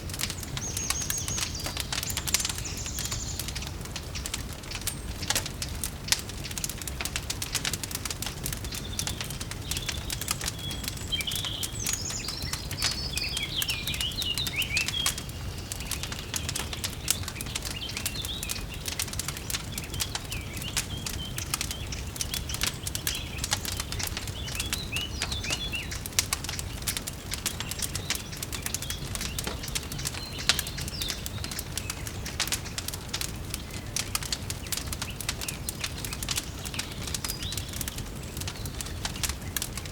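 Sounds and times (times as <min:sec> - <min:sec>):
songbirds chirping: 0:00.0 - 0:39.9
wood fire crackling: 0:00.0 - 0:39.9.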